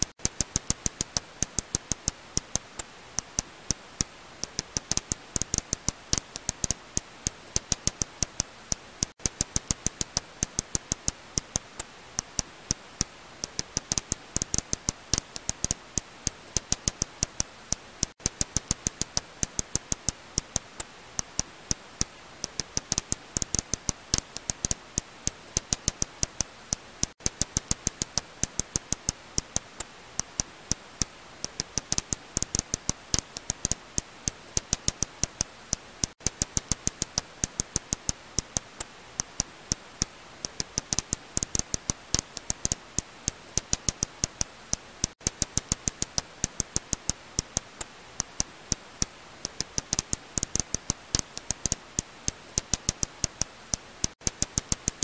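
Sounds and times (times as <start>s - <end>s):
bat echolocation clicks: 0.0s - 55.0s
steady hiss: 0.0s - 55.0s.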